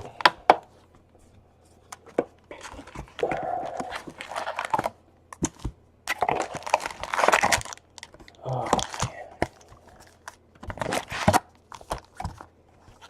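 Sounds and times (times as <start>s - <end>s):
packaging tearing and crinkling: 2.5s - 13.0s.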